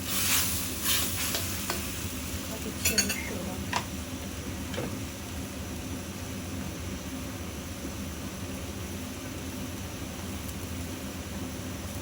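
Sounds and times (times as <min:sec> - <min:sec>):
stove humming and hissing: 0:00.0 - 0:12.0.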